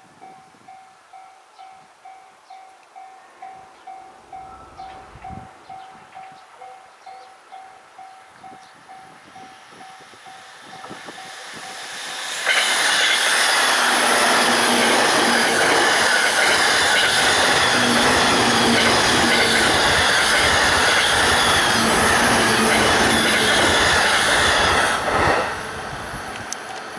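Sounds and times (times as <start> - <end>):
level crossing warning bell: 0.2 - 11.9, 12.5 - 24.6
train passing at high speed: 3.2 - 26.9.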